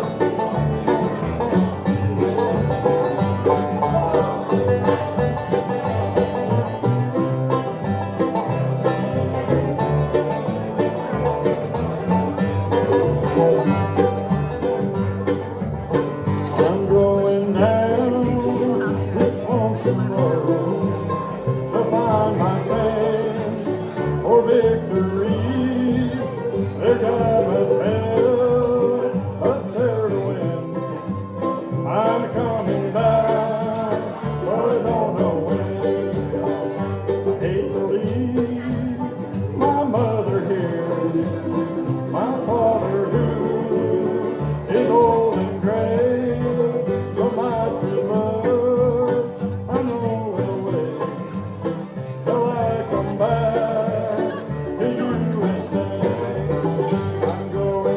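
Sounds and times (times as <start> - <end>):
acoustic guitar: 0.0 - 57.9
banjo: 0.0 - 57.9
live bluegrass band playing: 0.0 - 57.9.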